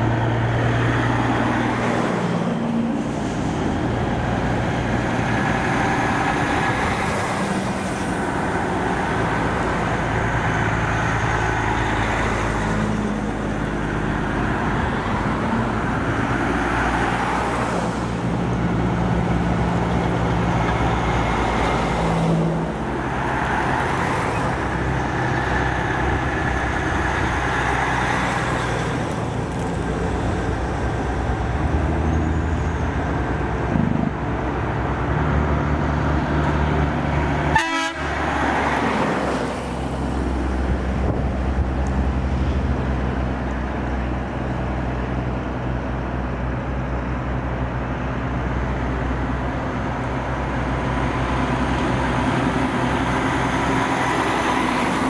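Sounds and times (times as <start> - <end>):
cars passing: 0.0 - 55.0
diesel trucks passing: 0.0 - 55.0.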